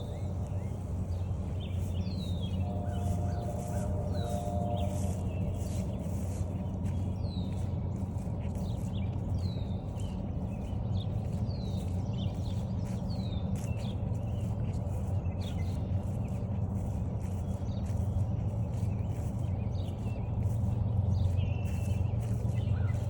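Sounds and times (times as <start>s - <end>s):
footsteps on forest trail: 0.0s - 23.0s.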